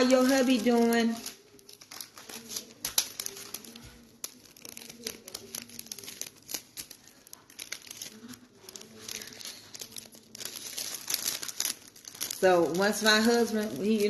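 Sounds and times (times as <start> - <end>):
crinkling and crackling: 0.0 - 14.0.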